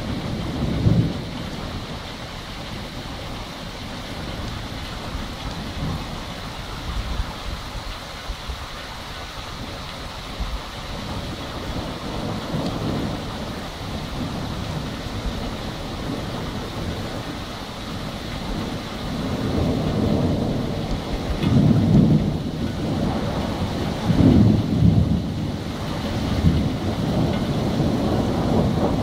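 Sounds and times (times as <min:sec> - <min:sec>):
steady rain: 0:00.0 - 0:29.0
thunder rumbling: 0:00.0 - 0:29.0.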